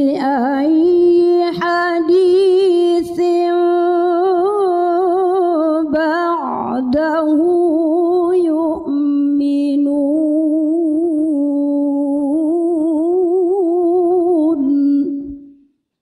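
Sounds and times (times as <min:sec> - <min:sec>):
woman reciting melodically: 0:00.0 - 0:15.6.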